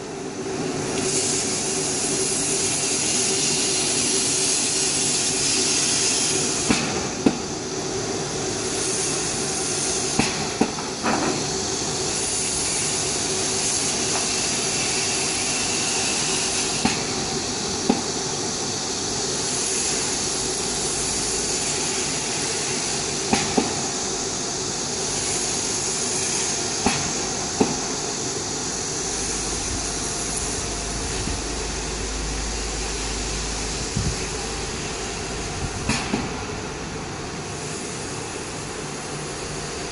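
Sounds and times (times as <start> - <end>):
cutting machine hiss and hum: 0.0 - 39.9.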